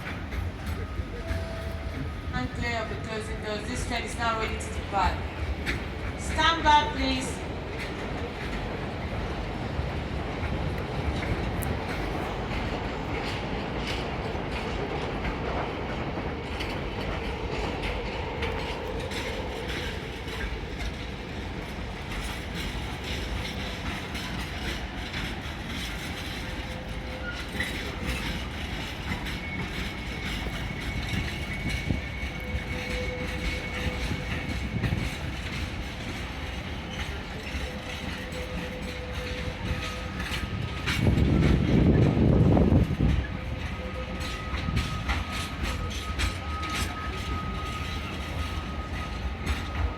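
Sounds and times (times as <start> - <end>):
train wheels clicking over rails: 0.0 - 49.9.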